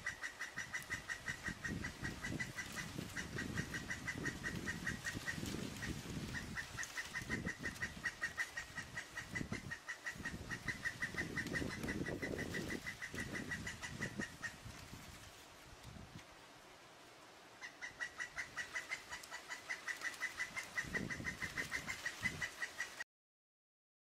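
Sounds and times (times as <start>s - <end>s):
woodpecker kuk calls: 0.0s - 15.4s, 17.5s - 23.0s.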